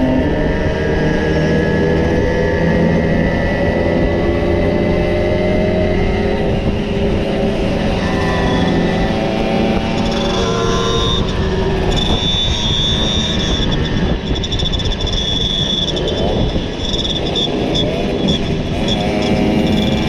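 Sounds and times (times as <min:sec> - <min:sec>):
steady high whine: 0:00.0 - 0:20.0.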